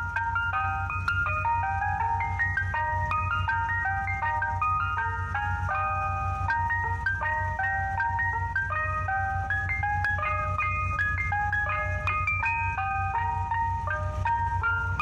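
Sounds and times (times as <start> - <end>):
ice cream truck chime tune: 0.0 - 15.0
low steady rumble: 0.0 - 15.0.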